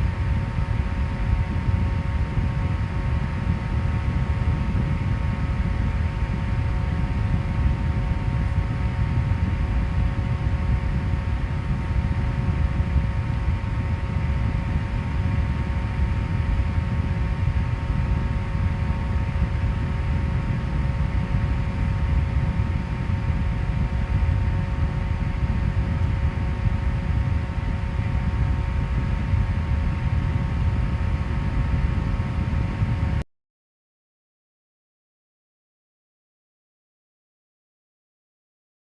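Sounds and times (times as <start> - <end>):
electric fan running: 0.0 - 33.2.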